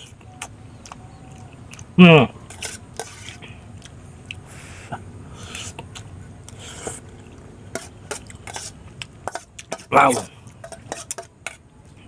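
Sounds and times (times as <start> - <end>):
soft wet chewing: 0.0 - 12.0.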